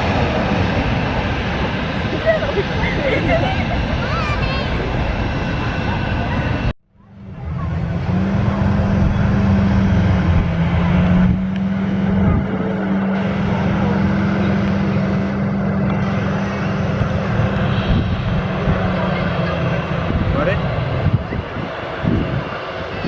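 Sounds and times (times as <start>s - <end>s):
airliner engines droning: 0.0s - 23.0s.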